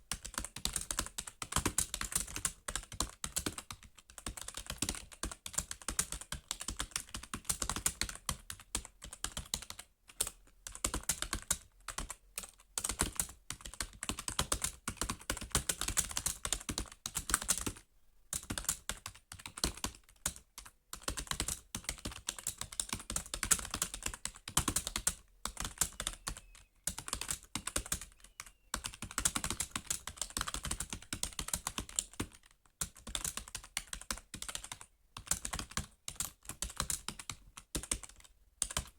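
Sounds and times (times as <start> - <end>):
typing on computer keyboard: 0.1 - 38.9.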